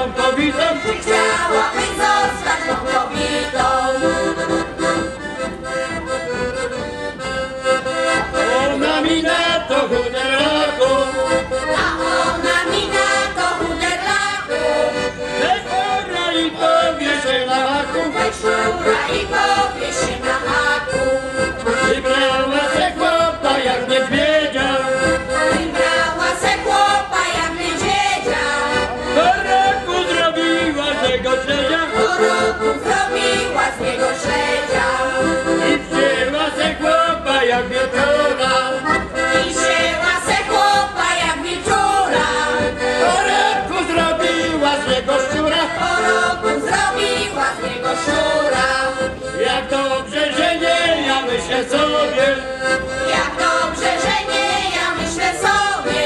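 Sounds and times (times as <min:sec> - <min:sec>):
accordion folk band playing: 0:00.0 - 0:56.0.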